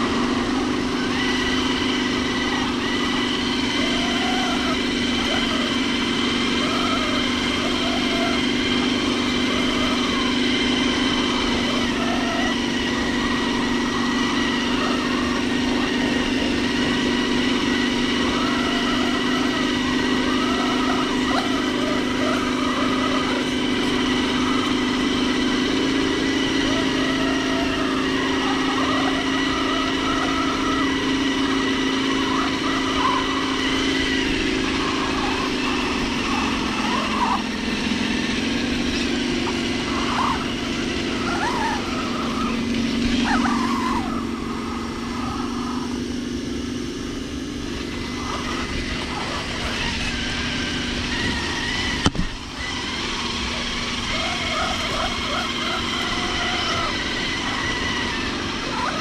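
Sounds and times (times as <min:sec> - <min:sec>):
rc car motor whining: 0:00.0 - 0:59.0.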